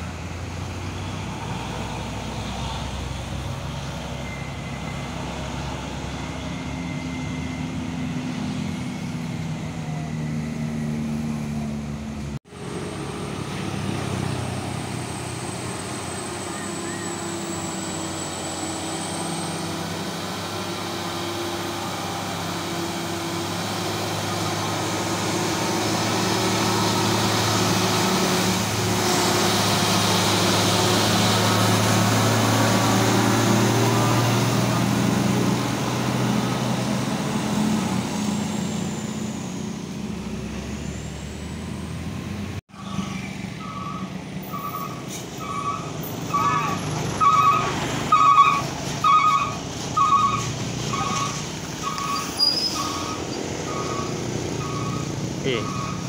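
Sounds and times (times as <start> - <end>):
diesel truck engine passing: 0.0 - 56.0.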